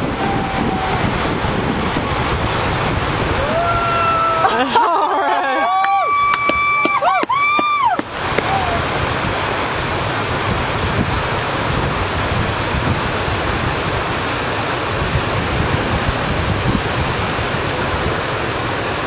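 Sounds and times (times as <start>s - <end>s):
wind buffeting microphone: 0.0s - 4.8s, 6.1s - 19.0s
roar of whitewater rapid: 0.0s - 19.0s.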